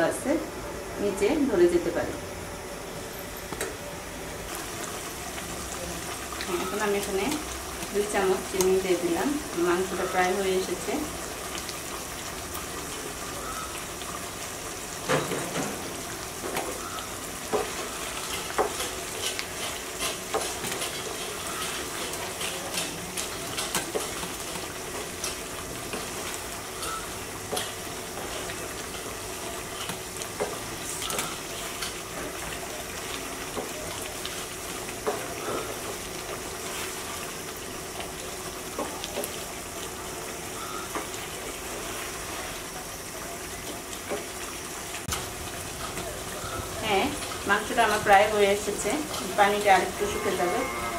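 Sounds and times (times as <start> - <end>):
gravy simmering and sizzling: 4.4 - 50.9.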